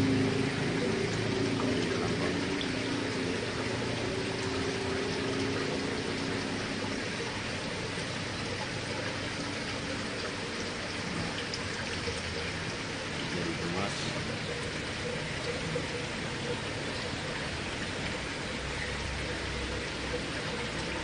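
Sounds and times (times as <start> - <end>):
aquarium water bubbling: 0.0 - 21.0
low hum: 0.0 - 21.0.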